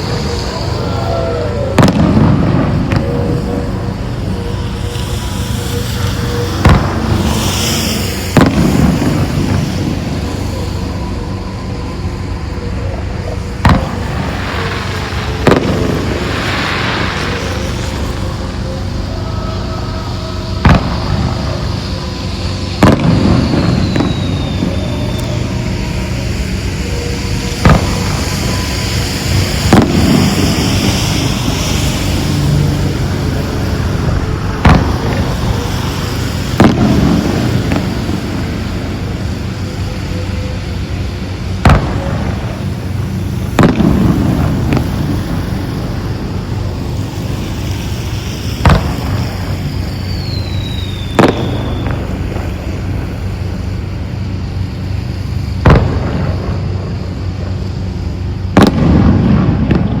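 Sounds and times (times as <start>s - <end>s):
falling firework whistle: 0.0s - 60.0s
firework shells bursting: 0.0s - 60.0s.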